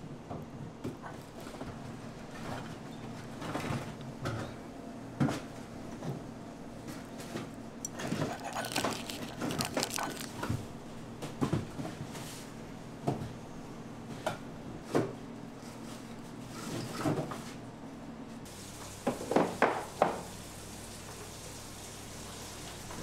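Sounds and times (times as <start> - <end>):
room hum: 0.0 - 19.4.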